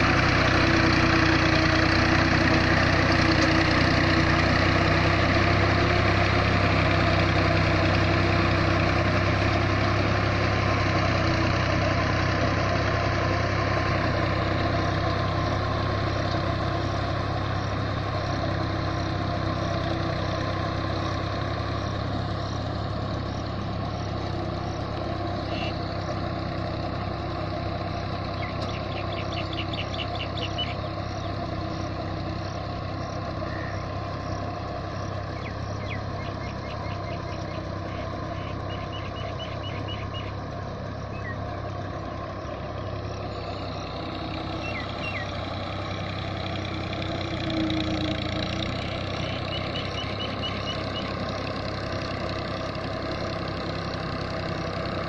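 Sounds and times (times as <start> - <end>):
tractor engine running under load: 0.0 - 55.0.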